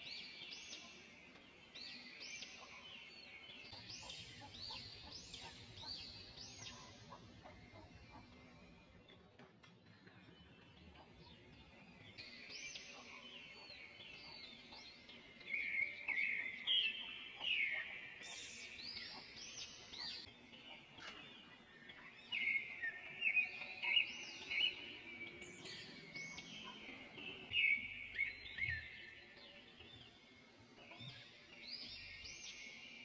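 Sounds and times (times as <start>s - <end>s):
birds chirping and singing: 0.0s - 33.0s.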